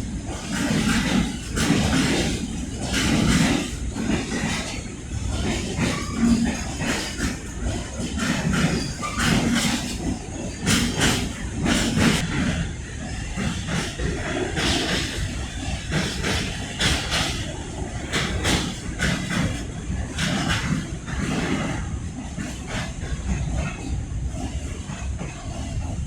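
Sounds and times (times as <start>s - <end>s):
low train rumble: 0.0s - 26.0s
train wheels clanking over joints: 0.0s - 26.0s.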